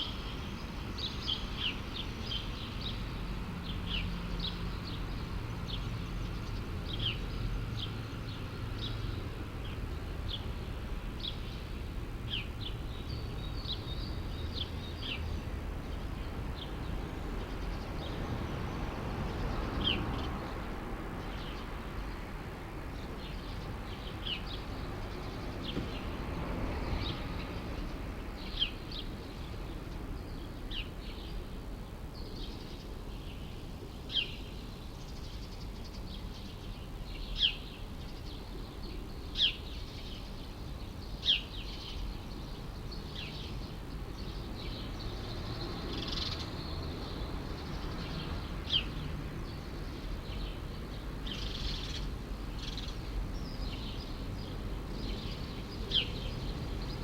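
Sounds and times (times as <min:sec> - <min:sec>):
songbird chirping: 0:00.0 - 0:31.6, 0:32.2 - 0:57.0.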